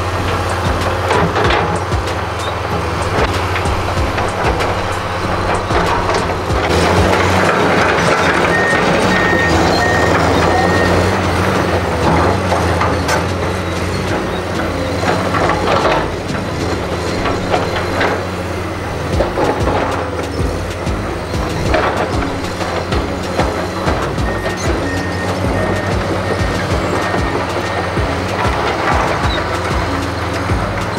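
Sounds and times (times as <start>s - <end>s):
warning alarm beeps: 0.0s - 12.2s, 16.6s - 30.1s
excavator diesel engine running: 0.0s - 30.9s
metal knocks and clanks: 0.0s - 30.9s.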